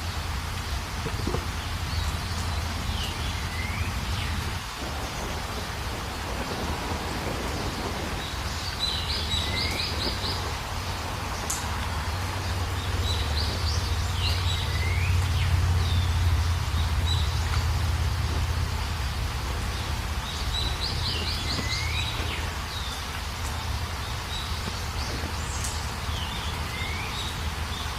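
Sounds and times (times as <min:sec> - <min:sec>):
birds chirping: 0:00.0 - 0:27.9
low rumble and hiss: 0:00.0 - 0:27.9.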